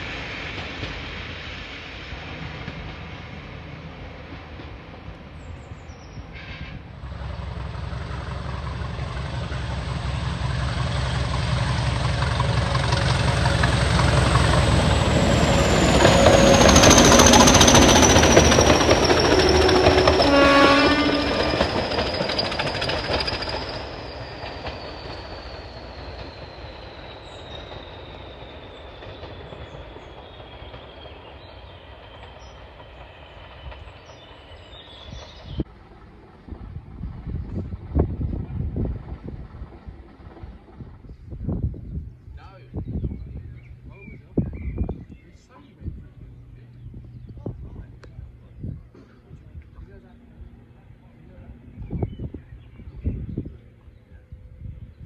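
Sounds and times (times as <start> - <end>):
passing train rumble: 0.0 - 55.0.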